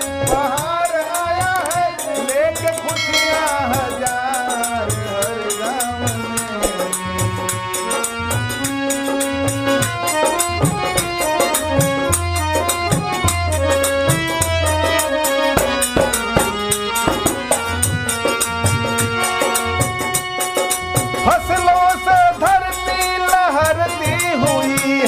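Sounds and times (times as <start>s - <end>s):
hand drum rhythm: 0.0s - 25.0s
harmonium melody: 0.0s - 25.0s.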